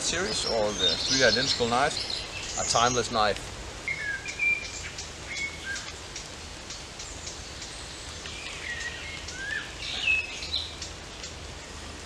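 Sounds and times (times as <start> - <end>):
small birds chirping: 0.0 - 12.0
steady rain: 0.0 - 12.0.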